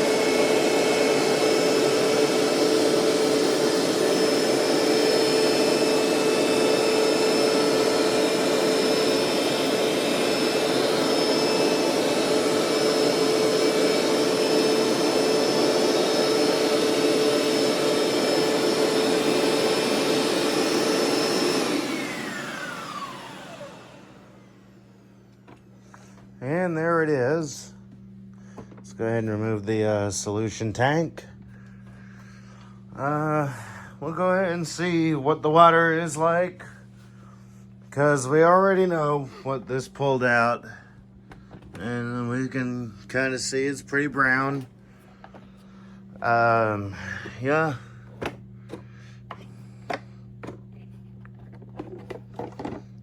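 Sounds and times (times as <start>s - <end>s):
carpet cleaner motor whine: 0.0s - 30.1s, 31.2s - 53.0s.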